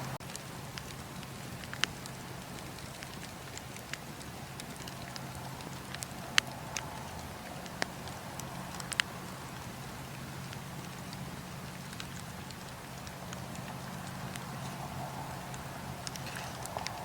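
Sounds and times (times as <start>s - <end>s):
campfire hiss and rumble: 0.0s - 17.0s
fire crackles and pops: 0.0s - 17.0s.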